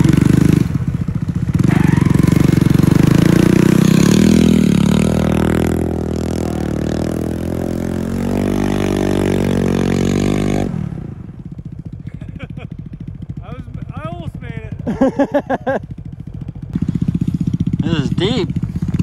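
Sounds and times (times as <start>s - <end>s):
snow scooter engine revving: 0.0s - 19.0s.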